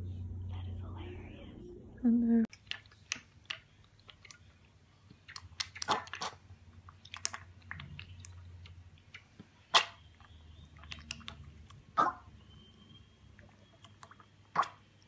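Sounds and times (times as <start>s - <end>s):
piglet slurping milk: 2.5s - 15.0s.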